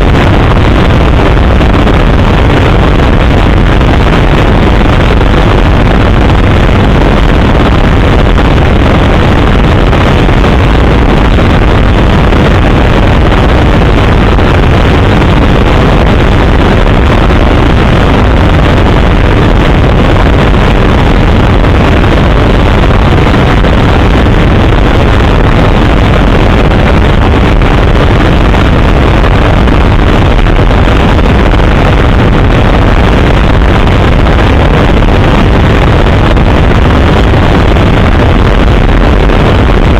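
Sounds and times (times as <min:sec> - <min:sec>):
rushing air: 0:00.0 - 0:39.9.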